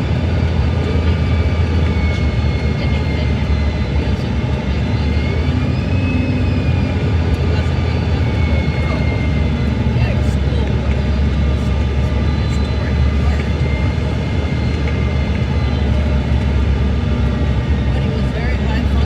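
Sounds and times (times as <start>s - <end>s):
airliner cabin rumble: 0.0s - 19.0s
thin engine whine: 0.0s - 19.0s.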